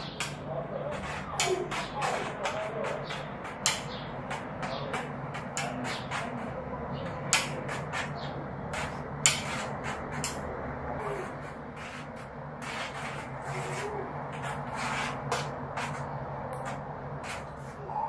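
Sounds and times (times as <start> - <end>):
brush tapping: 0.0 - 17.9.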